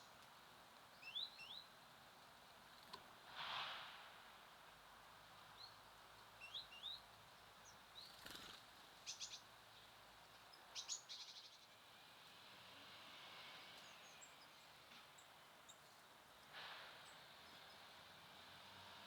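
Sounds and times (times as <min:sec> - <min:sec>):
songbirds chirping: 0:00.0 - 0:03.1, 0:05.4 - 0:12.3, 0:13.4 - 0:18.6
soft outdoor hiss: 0:00.0 - 0:19.0.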